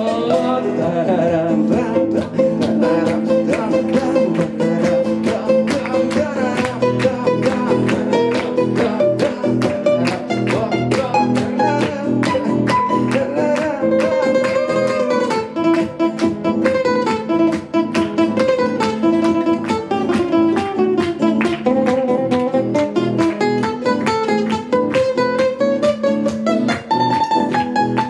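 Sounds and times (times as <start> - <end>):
guitar plucked melodic lead: 0.0 - 28.0
ukulele strummed chords: 0.0 - 28.0.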